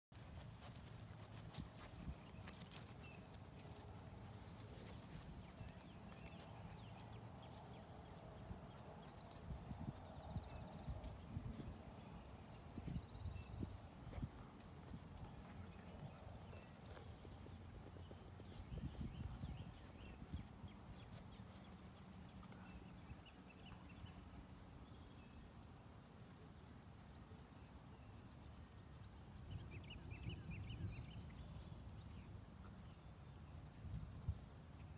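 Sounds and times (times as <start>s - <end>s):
horse hoofbeats on dirt: 0.1s - 34.9s.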